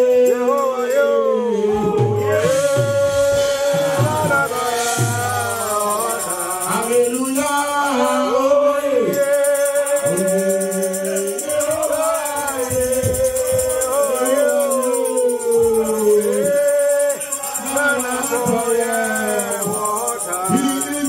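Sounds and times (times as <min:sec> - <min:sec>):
high-pitched percussion rhythm: 0:00.0 - 0:21.0
voices singing worship music: 0:00.0 - 0:21.0.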